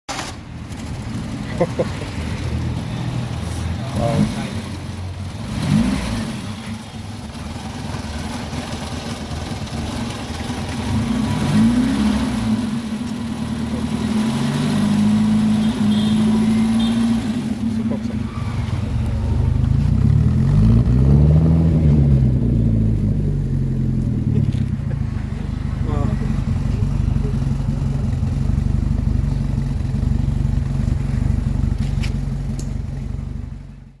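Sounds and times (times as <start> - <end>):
car engine idling and revving: 0.1 - 34.0.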